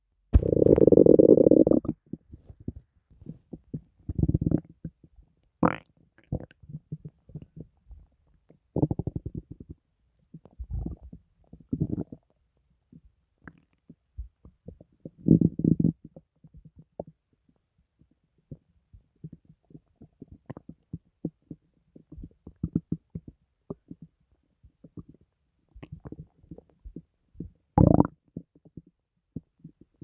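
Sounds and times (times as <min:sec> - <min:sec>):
stomach gurgling and rumbling: 0:00.4 - 0:30.0.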